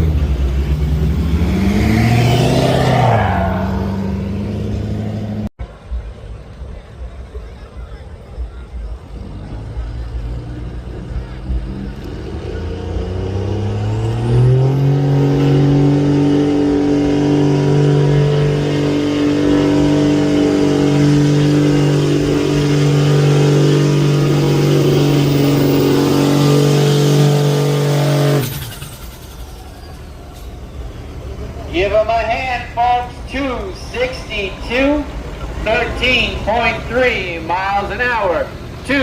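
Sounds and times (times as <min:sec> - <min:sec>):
truck engine revving: 0:00.0 - 0:05.5, 0:08.1 - 0:39.0.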